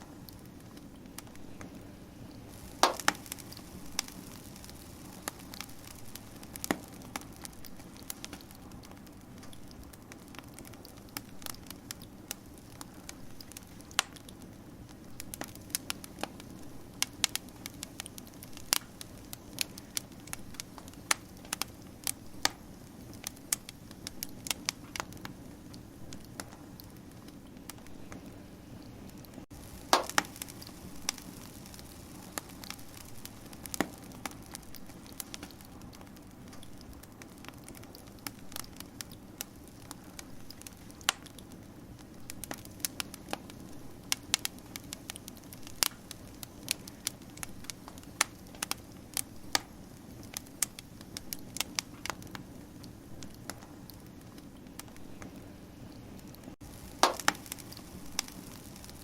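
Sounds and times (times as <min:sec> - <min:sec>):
low hiss of burning: 0:00.0 - 0:59.0
wood fire crackling and popping: 0:00.0 - 0:59.0.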